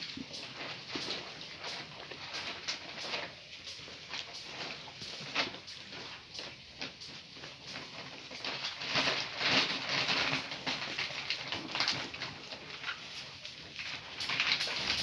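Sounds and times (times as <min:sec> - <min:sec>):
patter of paws: 0:00.0 - 0:15.0
rustling on straw bedding: 0:00.0 - 0:15.0.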